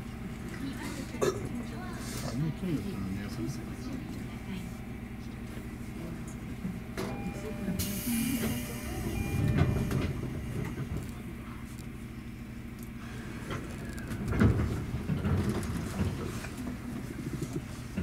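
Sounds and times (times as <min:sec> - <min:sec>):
low train rumble: 0:00.0 - 0:18.0.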